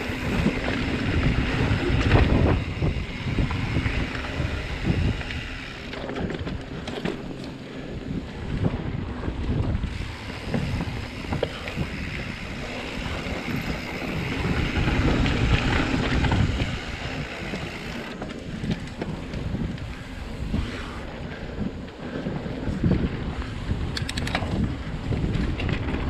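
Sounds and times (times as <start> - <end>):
bike rattling and knocking: 0.0 - 26.0
bike tyre noise: 0.0 - 26.0
wind buffeting microphone: 0.0 - 26.0.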